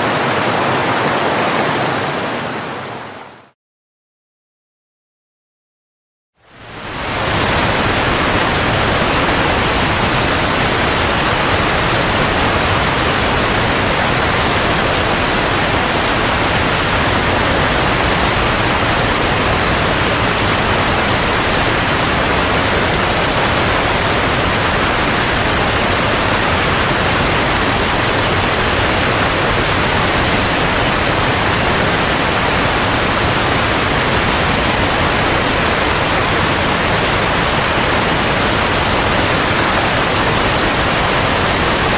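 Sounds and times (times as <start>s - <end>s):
rushing white water: 0.0s - 3.6s, 6.4s - 41.9s.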